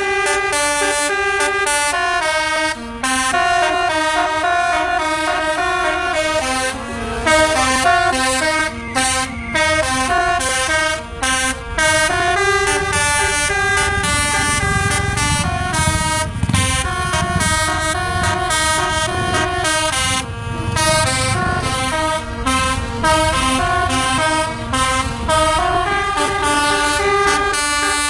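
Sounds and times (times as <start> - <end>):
multi-trumpet air horn melody: 0.0 - 28.0.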